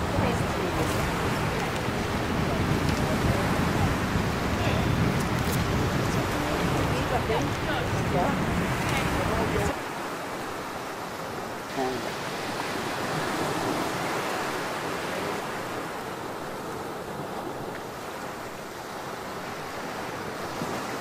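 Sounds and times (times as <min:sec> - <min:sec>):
surf washing on sandy beach: 0:00.0 - 0:21.0
wind: 0:00.0 - 0:21.0.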